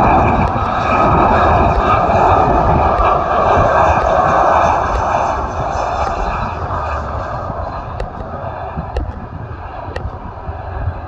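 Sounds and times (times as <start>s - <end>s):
jet airliner engine rush: 0.0s - 11.0s.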